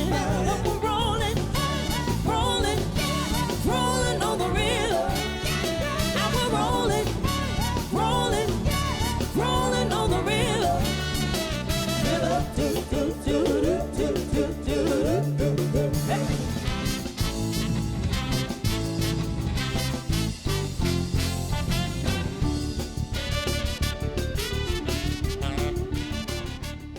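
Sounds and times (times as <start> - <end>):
soul band playing: 0.0 - 26.9.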